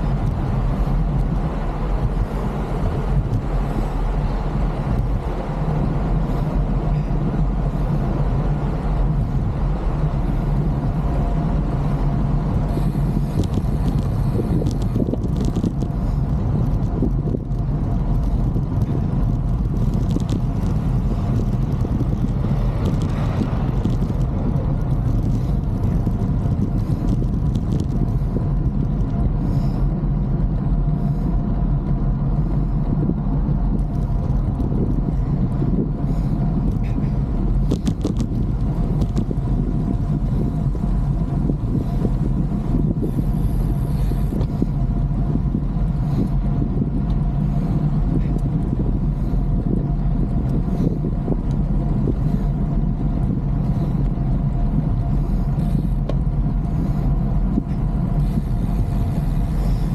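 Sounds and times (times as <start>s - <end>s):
bicycle road rumble: 0.0s - 59.9s
wind on microphone: 0.0s - 59.9s.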